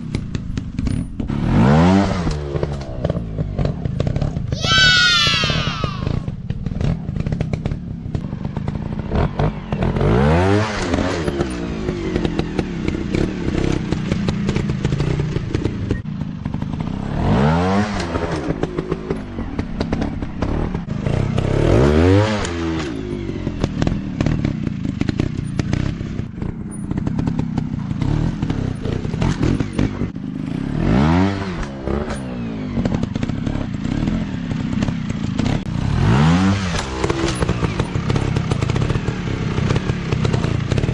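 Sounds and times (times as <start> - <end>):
dirt bike engines revving: 0.9 - 40.9.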